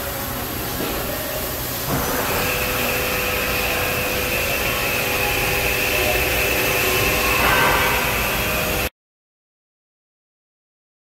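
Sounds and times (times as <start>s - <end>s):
machining center whine: 0.0s - 8.9s.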